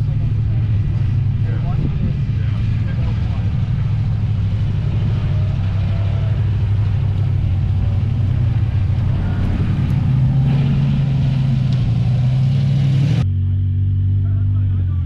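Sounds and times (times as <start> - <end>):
buggy engine droning under load: 0.0 - 15.0.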